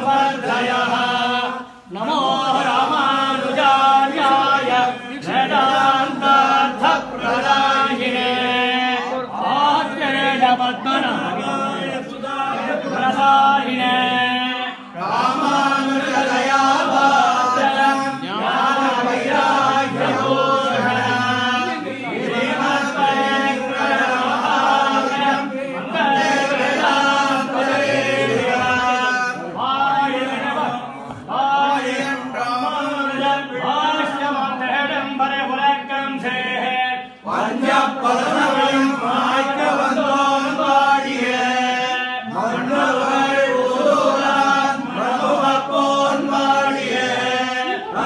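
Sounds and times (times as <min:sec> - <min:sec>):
men chanting in unison: 0:00.0 - 0:48.0.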